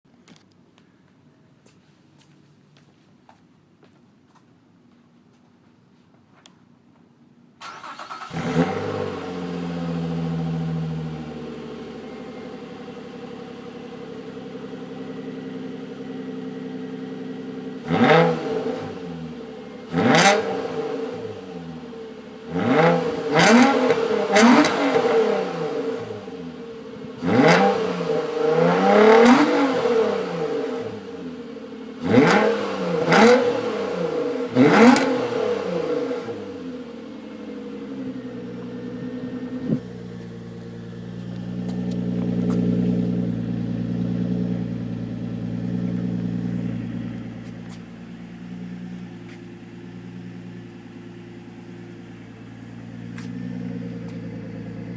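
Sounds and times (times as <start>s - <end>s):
car engine idling: 7.4s - 29.2s, 29.9s - 54.9s
car engine revving: 7.6s - 54.9s.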